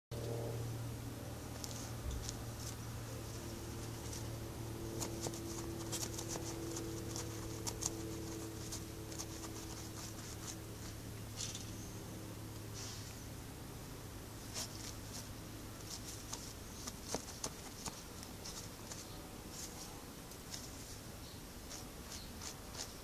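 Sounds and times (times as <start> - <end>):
steady low hum: 0.1 - 23.0
dog paws scratching in soil: 1.5 - 11.6, 14.4 - 23.0.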